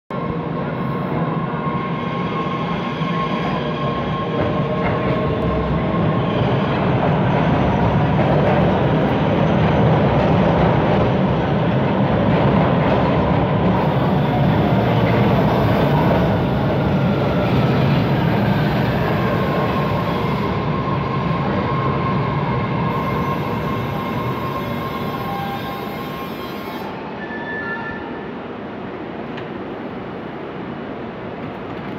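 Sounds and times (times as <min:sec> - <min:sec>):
subway train pulling in: 0:00.1 - 0:31.9.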